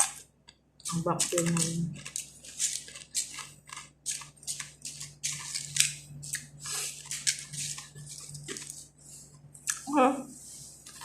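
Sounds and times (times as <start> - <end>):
crunchy bread chewing: 0.0 - 8.9.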